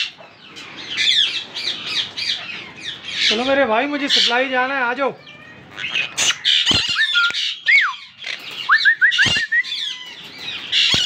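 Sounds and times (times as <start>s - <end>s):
parakeets squawking: 0.0s - 11.0s.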